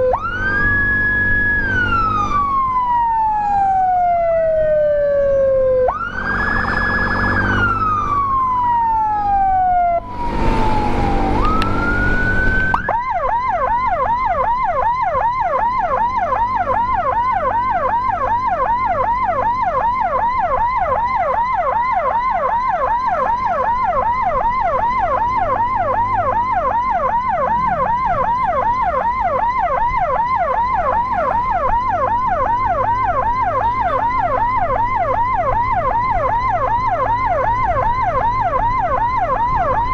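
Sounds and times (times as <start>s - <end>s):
fast siren yelp: 0.0s - 39.9s
siren wail: 0.0s - 39.9s.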